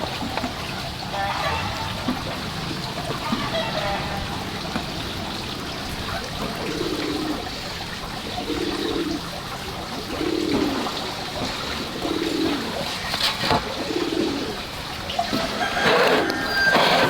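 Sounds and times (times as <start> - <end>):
dove cooing: 0.0 - 17.0
trickle of running water: 0.0 - 17.0.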